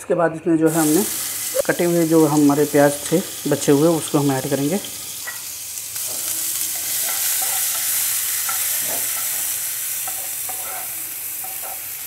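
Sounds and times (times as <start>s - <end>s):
onions sizzling in oil: 0.7s - 12.0s.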